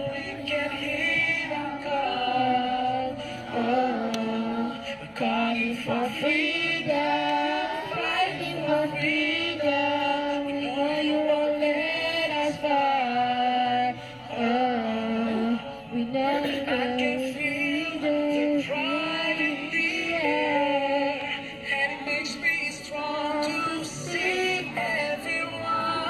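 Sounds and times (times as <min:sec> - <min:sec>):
backing track low notes: 0:00.0 - 0:26.0
girls singing together: 0:00.0 - 0:26.0.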